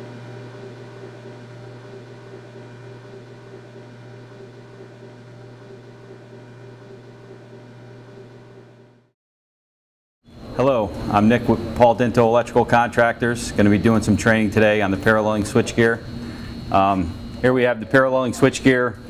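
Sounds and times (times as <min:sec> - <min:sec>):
mechanical hum: 0:00.0 - 0:09.1, 0:10.3 - 0:19.0.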